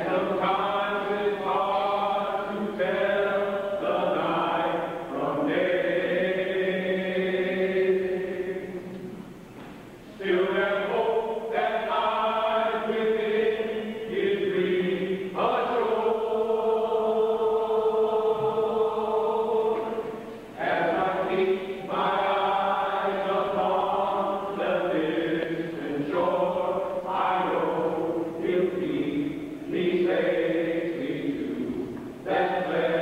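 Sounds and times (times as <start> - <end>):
church choir singing in harmony: 0.0 - 9.4, 10.0 - 33.0.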